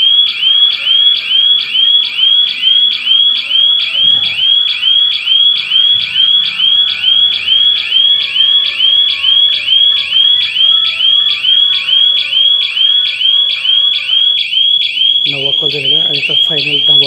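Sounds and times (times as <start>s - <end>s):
electronic alarm siren: 0.0s - 17.0s.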